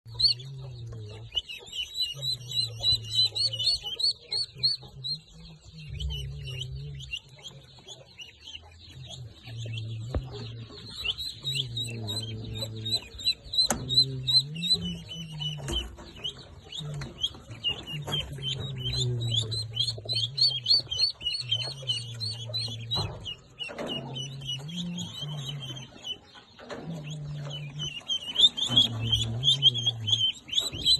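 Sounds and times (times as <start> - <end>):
baby birds peeping: 0.0 - 30.9.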